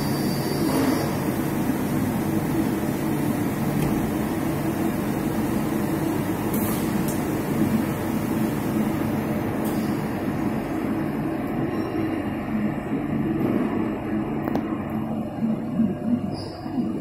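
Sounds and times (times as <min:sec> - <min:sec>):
machining centre humming: 0:00.0 - 0:17.0.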